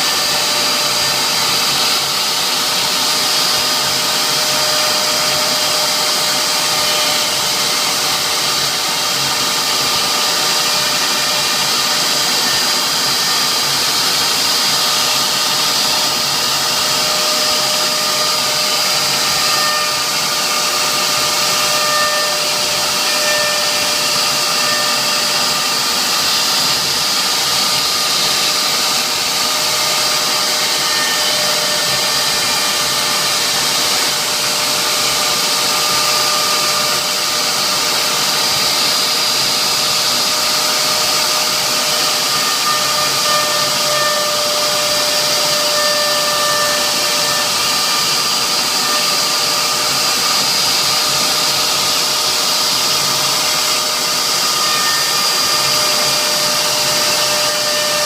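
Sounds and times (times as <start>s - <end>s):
router spindle high whine: 0.0s - 58.0s.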